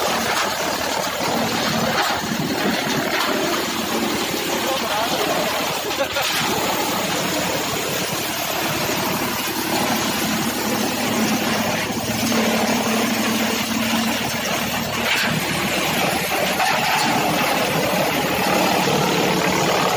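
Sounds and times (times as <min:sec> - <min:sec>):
chaff cutter machine drone: 0:00.0 - 0:19.9
tractor engine running: 0:00.0 - 0:19.9.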